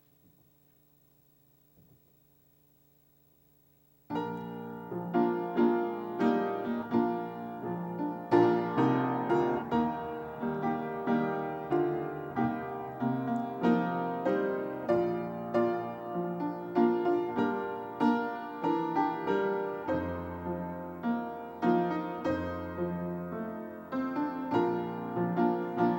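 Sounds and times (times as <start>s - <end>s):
slow tender piano piece: 4.1s - 25.9s.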